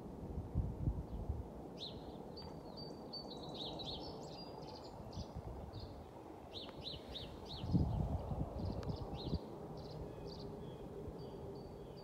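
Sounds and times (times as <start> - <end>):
songbirds chirping: 1.0 - 12.0.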